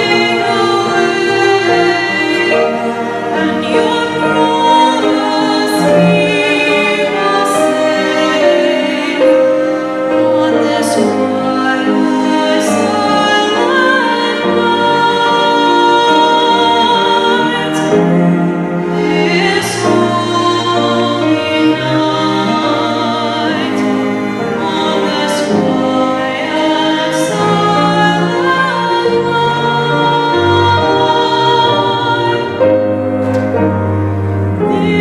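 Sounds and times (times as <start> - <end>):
instrumental accompaniment: 0.0 - 35.0
voices singing slow piece: 0.0 - 35.0.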